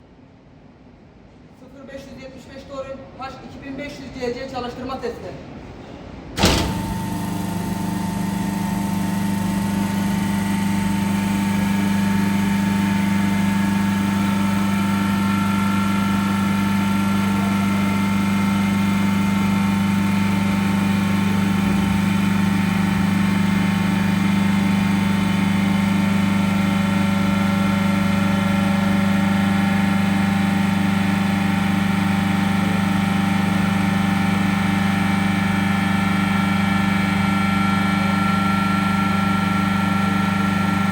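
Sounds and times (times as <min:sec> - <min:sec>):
refrigeration compressor humming: 0:03.8 - 0:40.9.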